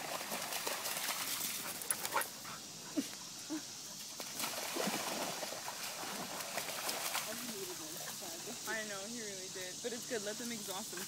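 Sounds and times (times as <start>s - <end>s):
dogs splashing through water: 0.0s - 2.4s, 4.0s - 11.0s.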